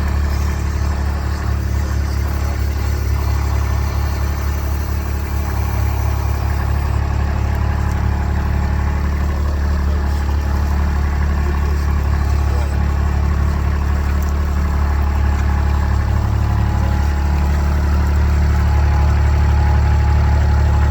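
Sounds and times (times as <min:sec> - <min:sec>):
utility vehicle engine running: 0:00.0 - 0:20.9.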